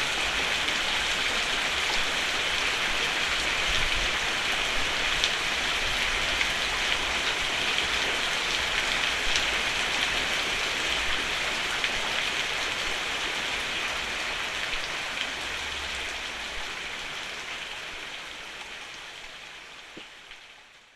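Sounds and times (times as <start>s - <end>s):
rain on a roof: 0.0s - 20.9s.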